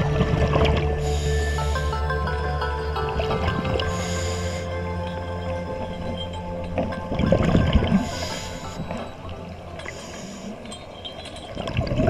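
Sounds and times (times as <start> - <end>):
background music: 0.0 - 12.0
underwater bubbling and gurgling: 0.0 - 12.0.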